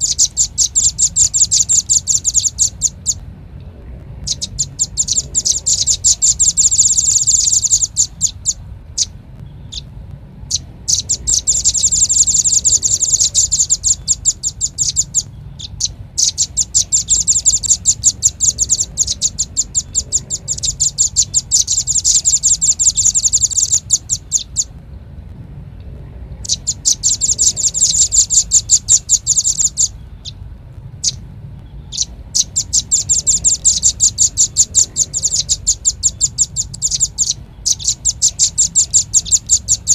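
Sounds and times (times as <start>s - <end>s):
bird chattering trills: 0.0s - 24.8s, 26.3s - 39.9s
faint low hum: 0.0s - 39.9s.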